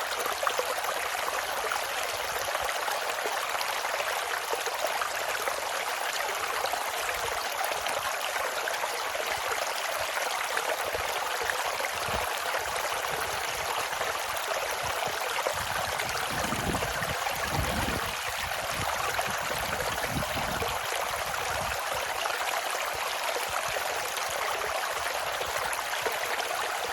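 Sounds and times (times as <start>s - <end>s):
stream rushing: 0.0s - 26.9s.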